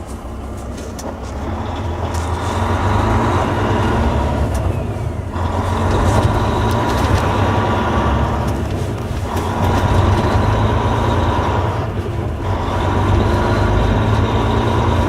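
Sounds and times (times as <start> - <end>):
road and tyre noise: 0.0 - 15.0
truck diesel engine droning: 0.0 - 15.0.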